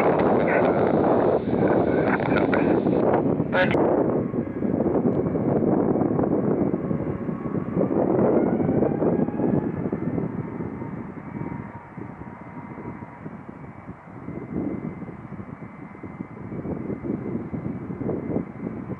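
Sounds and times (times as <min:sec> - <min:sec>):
high jet whine: 0:00.0 - 0:18.9
jet engine rumble: 0:00.0 - 0:18.9.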